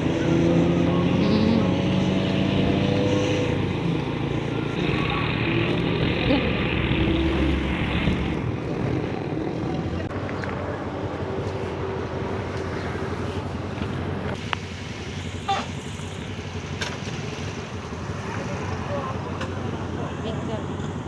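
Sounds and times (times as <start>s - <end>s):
motorcycle engine running: 0.0s - 21.0s
road and wind noise: 0.0s - 21.0s.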